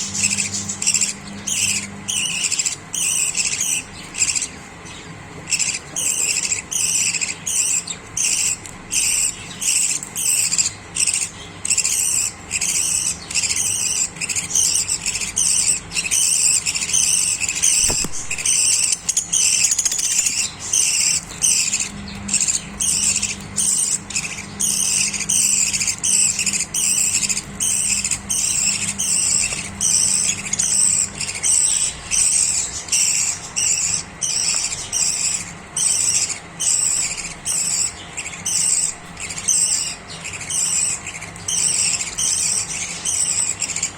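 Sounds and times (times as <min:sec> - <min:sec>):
budgerigars chirping: 0:00.0 - 0:43.9.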